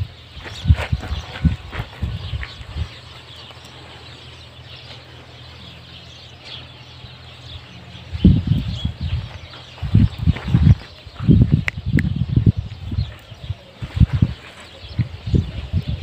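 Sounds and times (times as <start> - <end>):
low rumbling bursts: 0.0 - 16.0.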